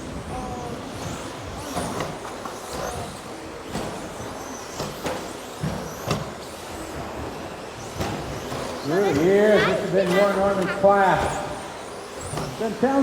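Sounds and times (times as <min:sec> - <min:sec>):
toy truck motors whining: 0:00.0 - 0:12.8.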